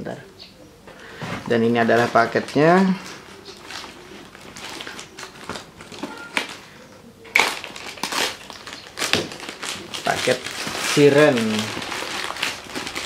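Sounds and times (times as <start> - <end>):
cardboard boxes rustling: 1.1 - 6.6, 7.7 - 13.0
plastic wrapping crinkling: 1.4 - 13.0.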